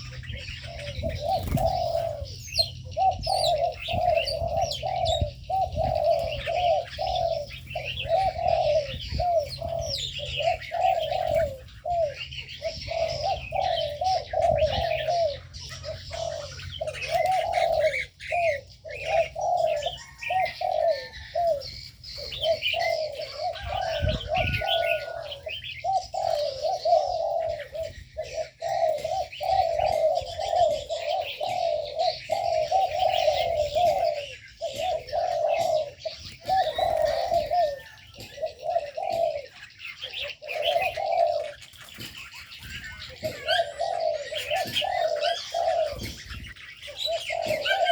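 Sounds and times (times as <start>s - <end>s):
doves cooing: 0.0s - 47.9s
small birds chirping: 0.0s - 47.9s.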